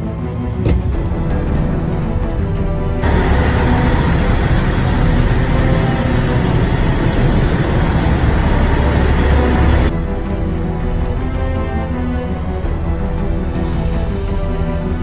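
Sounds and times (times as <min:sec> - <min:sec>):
vehicle engine rumble and hiss: 0:00.7 - 0:15.0.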